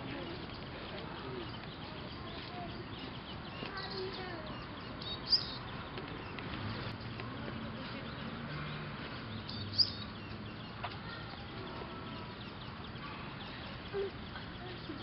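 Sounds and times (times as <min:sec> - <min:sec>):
birds chirping: 0:00.0 - 0:15.0
faint outdoor background: 0:00.0 - 0:15.0.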